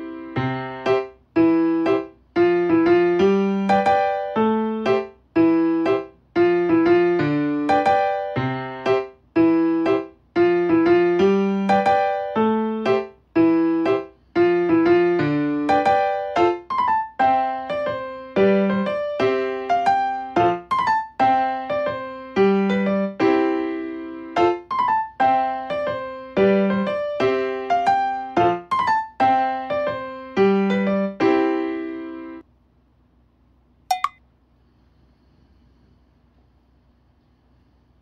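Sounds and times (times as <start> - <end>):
light keyboard tune: 0.0 - 32.4.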